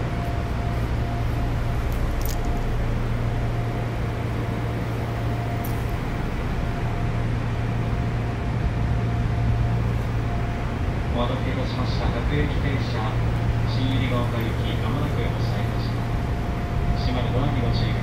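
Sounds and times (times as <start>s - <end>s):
electric train humming: 0.0s - 18.0s.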